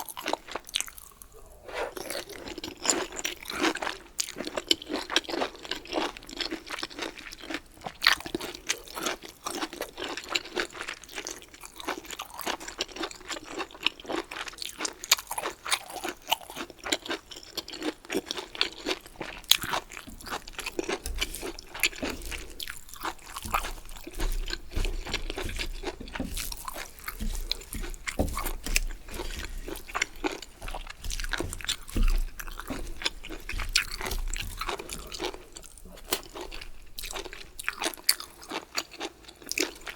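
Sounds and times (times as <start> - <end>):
chewing crunchy bamboo shoots: 0.0 - 39.9.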